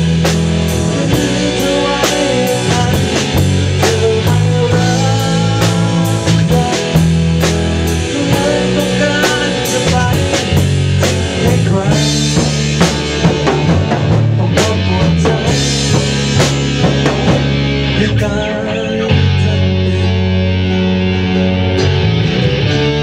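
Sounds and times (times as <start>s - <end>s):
drum kit beat: 0.0s - 18.4s
distorted electric guitars: 0.0s - 23.0s.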